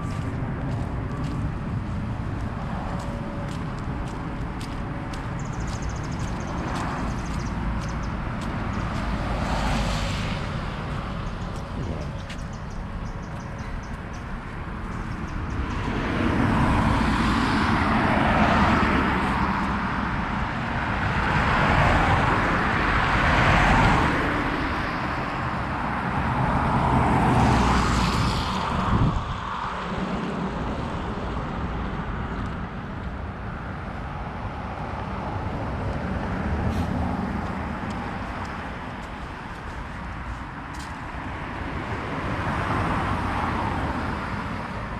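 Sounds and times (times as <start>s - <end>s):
cars passing on wet road: 0.0s - 44.9s.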